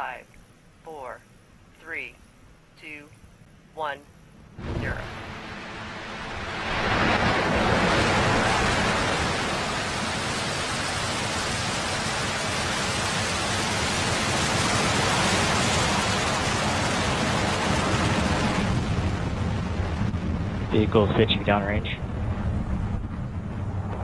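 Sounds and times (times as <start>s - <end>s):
rocket engines roaring: 4.5s - 24.0s.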